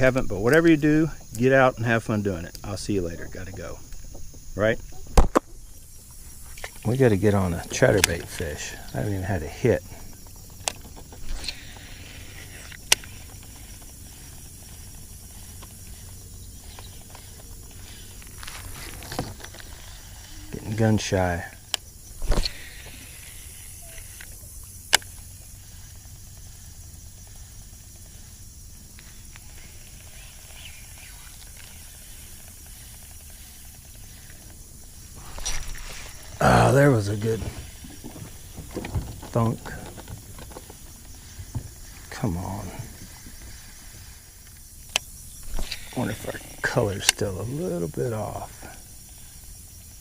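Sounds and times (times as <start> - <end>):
low outdoor background noise: 0.0 - 50.0
fishing reel ticking: 6.3 - 40.5, 43.0 - 50.0.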